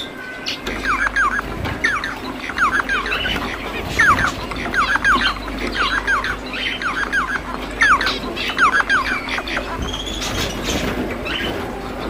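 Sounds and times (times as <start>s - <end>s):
finch singing: 0.0s - 12.0s.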